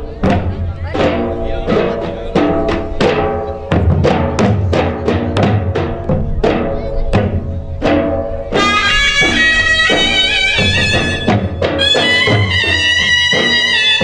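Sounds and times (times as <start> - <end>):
folk drum beats: 0.0 - 14.0
struck melody line: 0.0 - 14.0.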